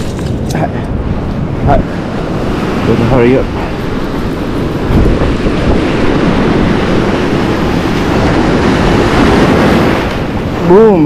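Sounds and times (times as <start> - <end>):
surf breaking on shore: 0.0 - 11.0
wind noise on microphone: 0.0 - 11.0.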